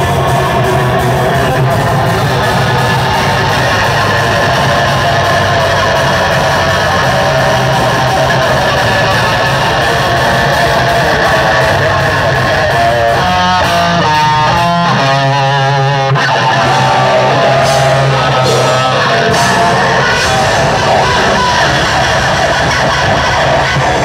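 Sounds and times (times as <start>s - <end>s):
metal band playing live: 0.0s - 24.0s
single guitar notes: 1.6s - 22.9s.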